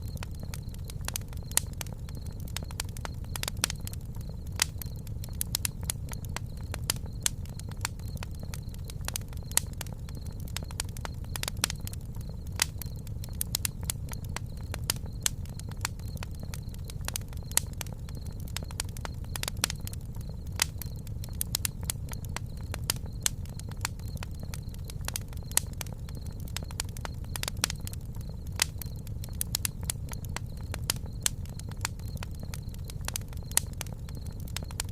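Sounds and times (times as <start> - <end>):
campfire crackling and popping: 0.0 - 34.9
low rumble of flames: 0.0 - 34.9.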